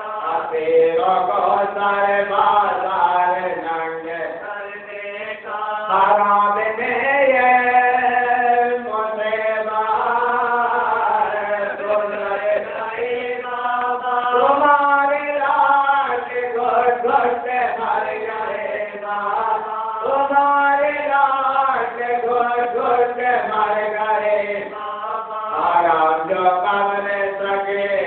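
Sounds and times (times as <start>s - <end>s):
vocal chanting: 0.0s - 28.0s.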